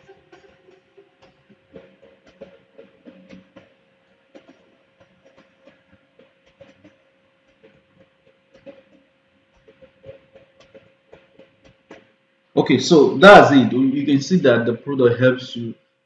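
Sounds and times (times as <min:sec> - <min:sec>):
steady low hum: 0:01.2 - 0:16.0.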